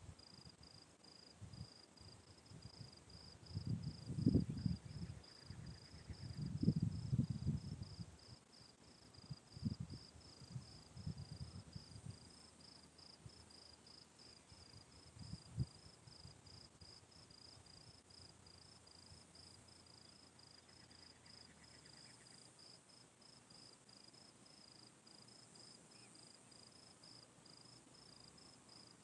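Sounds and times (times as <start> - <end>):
cricket chirping: 0.2 - 29.0.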